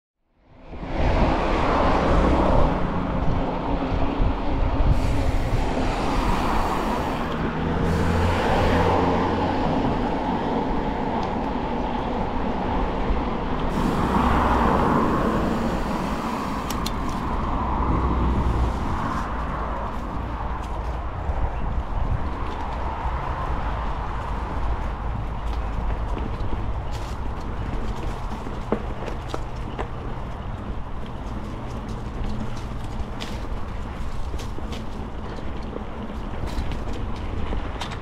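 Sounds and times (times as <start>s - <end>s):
bicycle riding on pavement: 0.5s - 38.0s
cars passing: 0.5s - 38.0s.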